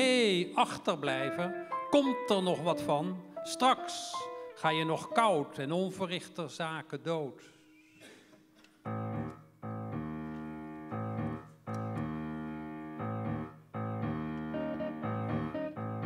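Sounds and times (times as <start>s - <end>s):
grand piano chords: 0.0s - 6.6s, 8.8s - 16.0s.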